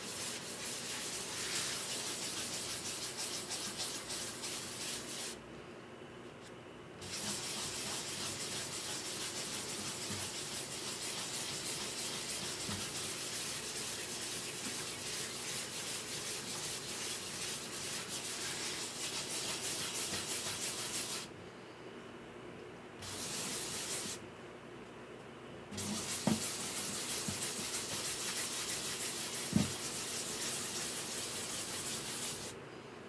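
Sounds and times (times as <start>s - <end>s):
sanding on guitar: 0.0s - 5.4s, 7.0s - 21.3s, 23.0s - 24.2s, 25.8s - 32.6s.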